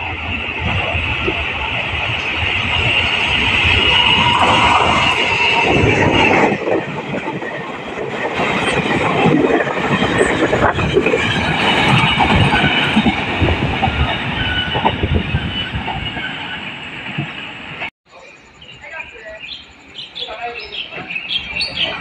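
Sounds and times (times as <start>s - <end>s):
train wheels on rails: 0.0s - 17.9s, 18.7s - 22.0s
wheels clacking over rail joints: 0.0s - 17.9s
high ringing from train wheels: 1.6s - 22.0s.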